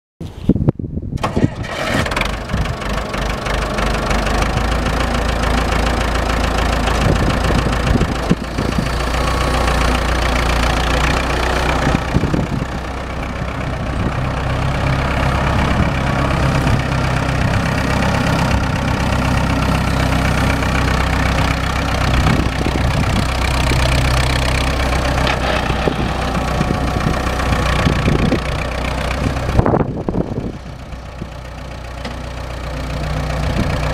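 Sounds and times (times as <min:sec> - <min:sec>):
tractor diesel engine running: 0:01.2 - 0:33.9.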